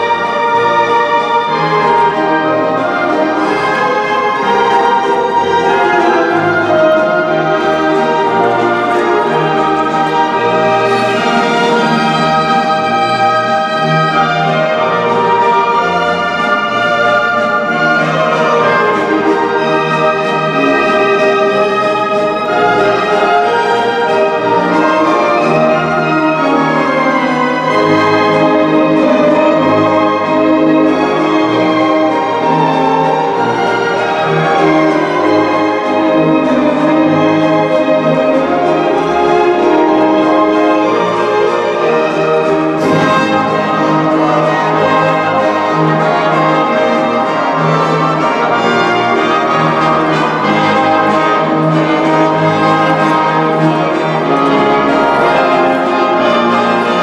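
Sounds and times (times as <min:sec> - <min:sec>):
orchestral music with brass: 0:00.0 - 0:57.0.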